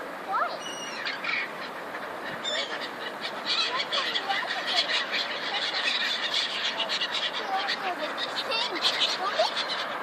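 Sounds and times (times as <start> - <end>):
outdoor background noise: 0.0 - 10.0
flock of birds calling: 0.3 - 10.0.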